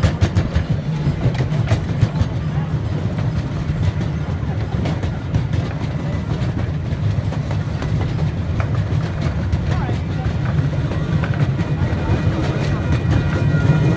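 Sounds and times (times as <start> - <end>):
train wheels rumbling on rails: 0.0 - 13.9.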